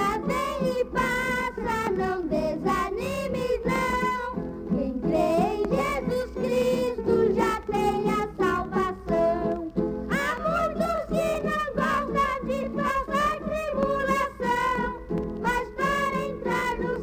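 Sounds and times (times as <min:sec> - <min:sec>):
children singing a hymn: 0:00.0 - 0:17.0
plucked strings: 0:00.0 - 0:17.0.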